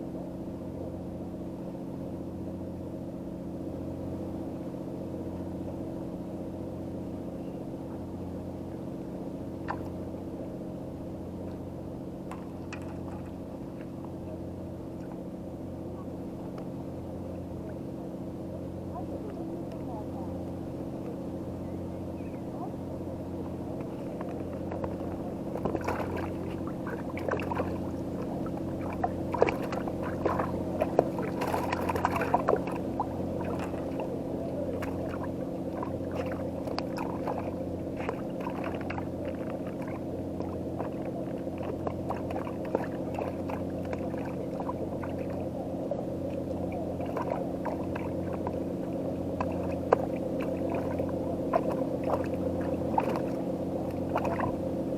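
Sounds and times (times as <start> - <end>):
boat engine idling: 0.0 - 54.9.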